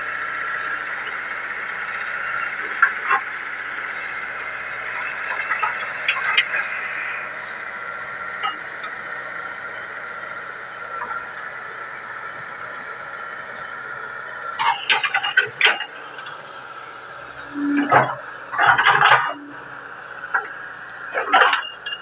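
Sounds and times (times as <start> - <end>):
hydraulic excavator running: 0.0 - 22.0.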